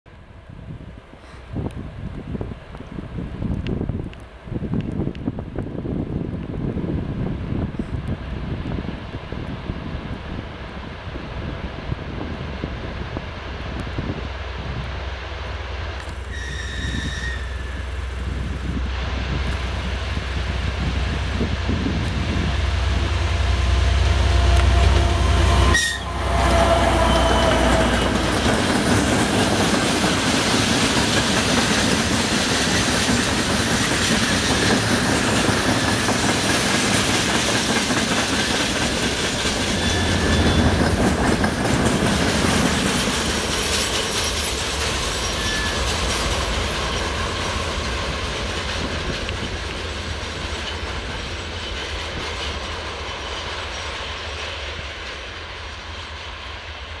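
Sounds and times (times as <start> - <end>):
diesel locomotive engine droning: 0.1 - 57.0
freight train rolling on rails: 0.1 - 57.0.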